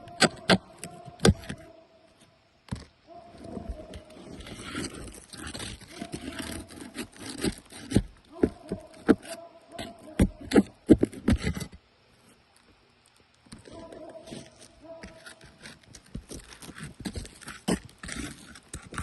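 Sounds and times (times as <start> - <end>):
hand tool scraping roof shingles: 0.0 - 1.7, 2.7 - 11.8, 13.5 - 19.0.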